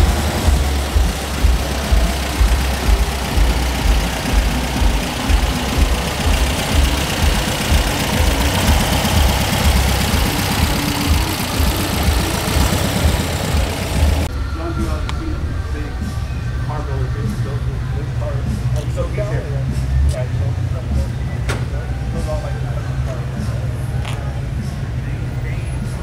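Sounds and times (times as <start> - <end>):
van engine running slowly: 0.0 - 26.0.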